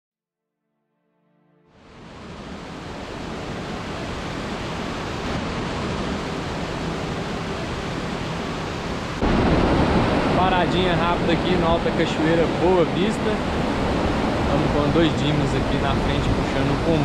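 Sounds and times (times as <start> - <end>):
waterfall rushing over rocks: 1.9 - 17.0.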